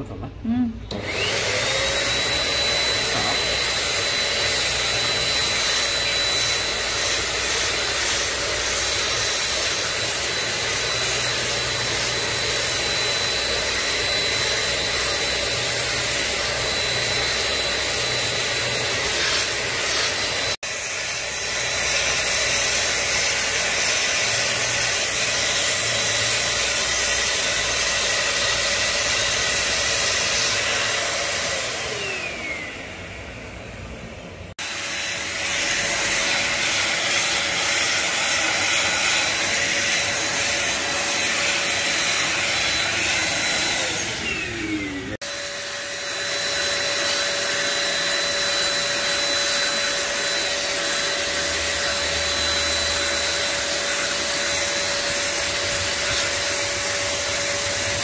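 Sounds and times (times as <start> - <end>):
handheld vacuum cleaner whining: 0.8 - 58.0.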